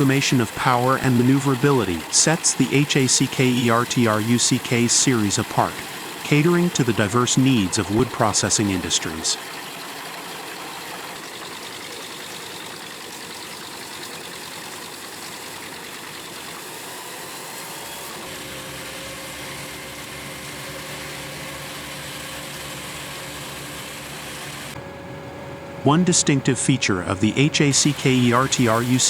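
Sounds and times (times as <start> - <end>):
wood chipper running: 0.0 - 26.3, 27.0 - 29.0.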